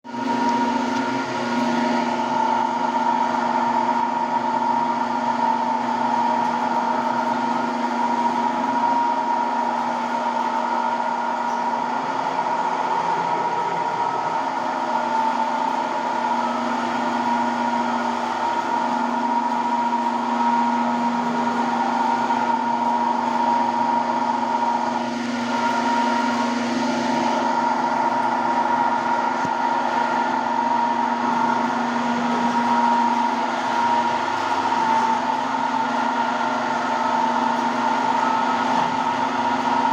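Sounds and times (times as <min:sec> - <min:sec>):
polishing machine motor whine: 0:00.1 - 0:39.9.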